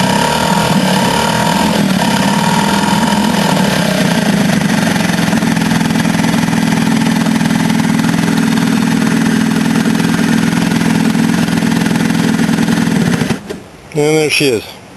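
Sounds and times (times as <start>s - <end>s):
outboard motor running: 0.0s - 13.8s.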